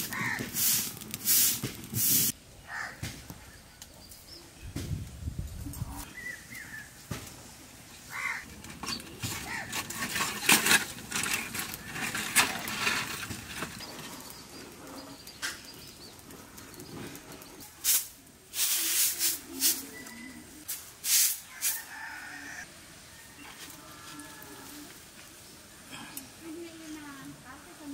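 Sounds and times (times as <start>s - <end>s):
rustles and scrapes of food preparation: 0.0s - 2.4s, 6.8s - 27.9s.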